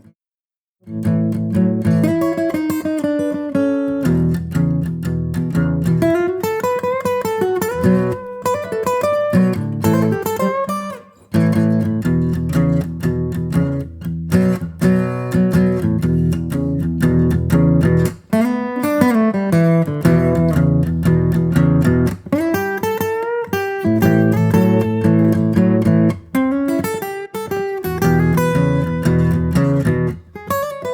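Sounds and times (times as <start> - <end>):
acoustic guitar plucked and strummed: 0.8 - 30.9.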